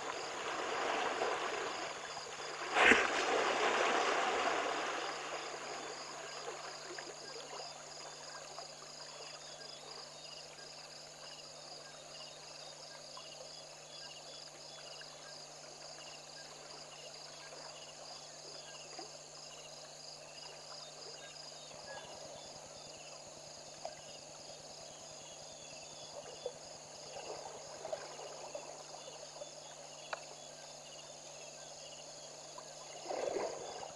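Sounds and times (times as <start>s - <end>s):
crickets chirping: 0.0s - 33.9s
soft water sounds: 0.0s - 33.9s.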